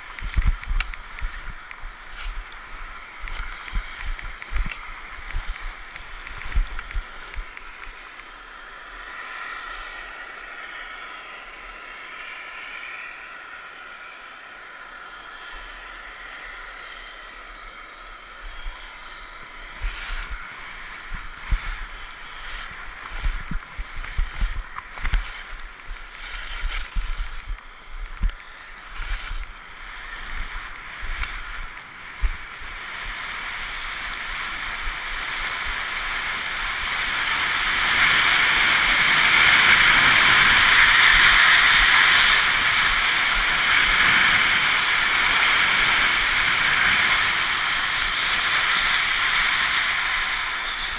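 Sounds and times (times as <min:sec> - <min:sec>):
skis scraping on snow: 0:00.0 - 0:09.7, 0:18.2 - 0:50.9
rushing hiss of wind and skis: 0:00.0 - 0:50.9.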